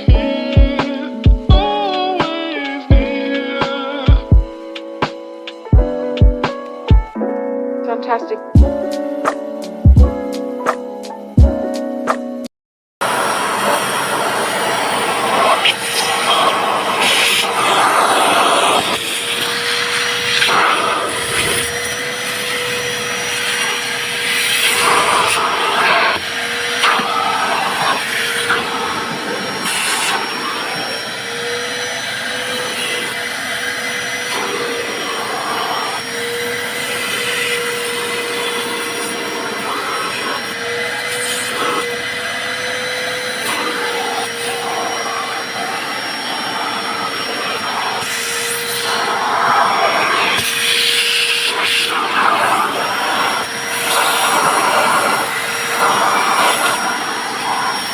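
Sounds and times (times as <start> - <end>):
vacuum cleaner running: 0.0 - 7.2, 8.0 - 57.9.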